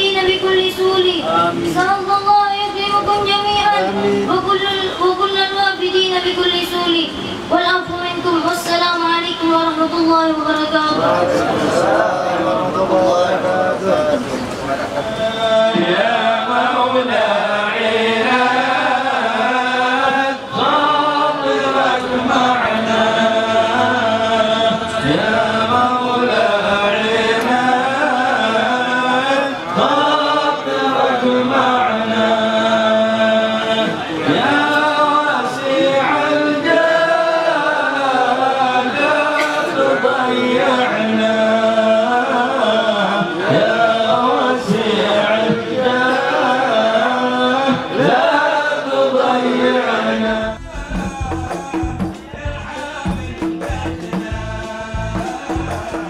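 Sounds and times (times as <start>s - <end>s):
men chanting devotional song: 0.0s - 56.0s.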